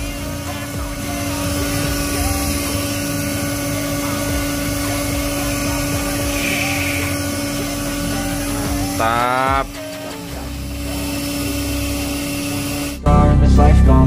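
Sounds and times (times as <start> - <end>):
rush of air from blower: 0.0 - 13.0
motor hum: 0.0 - 13.1.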